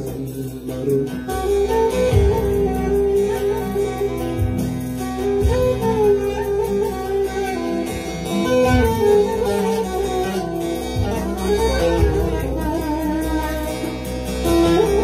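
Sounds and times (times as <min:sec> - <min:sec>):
bass line: 0:00.0 - 0:15.0
electronic keyboard melody: 0:00.0 - 0:15.0
low drum beats: 0:00.0 - 0:15.0.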